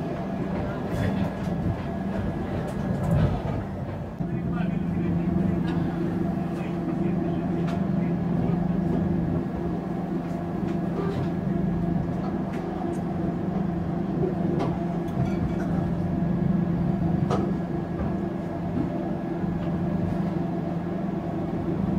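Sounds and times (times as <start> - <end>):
train rumbling: 0.0 - 21.9.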